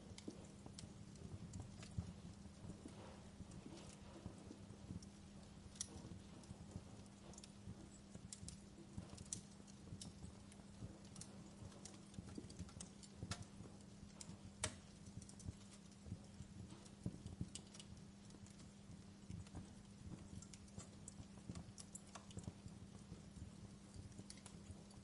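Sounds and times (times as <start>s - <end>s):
faint constant hum: 0.0s - 25.0s
wood fire crackling: 0.0s - 25.0s.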